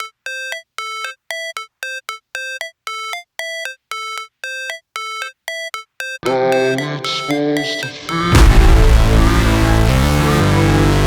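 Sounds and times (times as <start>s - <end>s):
electronic synth beeping notes: 0.0s - 11.0s.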